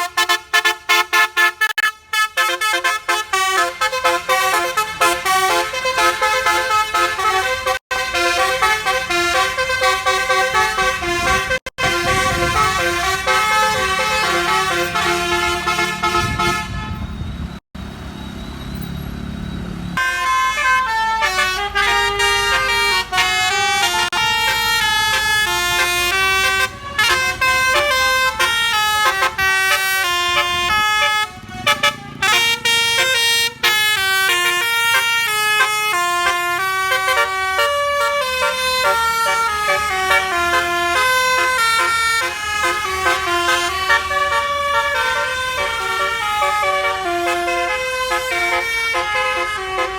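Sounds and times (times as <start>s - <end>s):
musical bus horn melodies: 0.0s - 17.2s, 20.0s - 49.9s.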